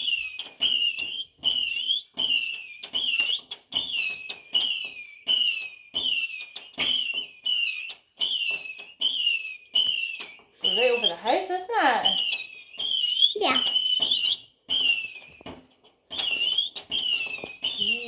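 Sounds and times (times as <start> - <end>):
firework pops with shrill whistles: 0.0 - 18.0.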